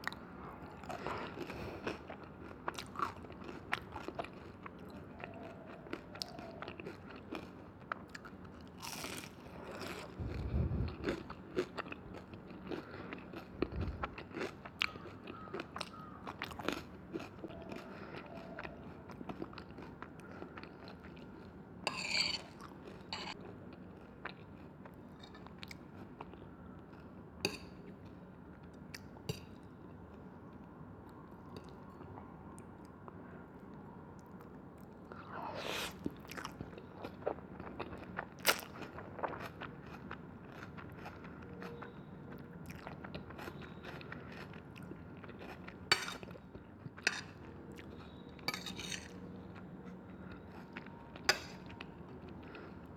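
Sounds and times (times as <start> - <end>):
person chewing and crunching food: 0.0 - 28.2, 32.8 - 52.9.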